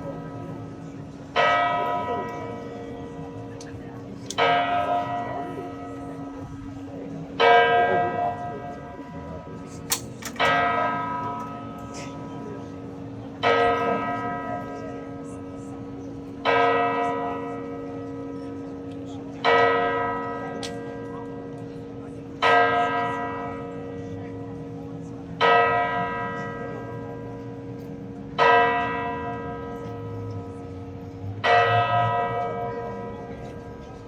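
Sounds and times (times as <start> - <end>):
large church bell tolling: 0.0 - 34.0.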